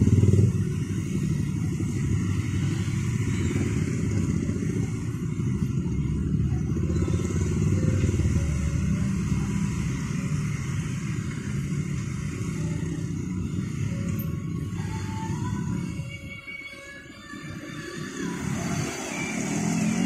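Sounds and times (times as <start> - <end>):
motorcycle engines pulling away: 0.0 - 15.8, 18.0 - 20.0
truck and car engines rumbling: 0.0 - 20.0.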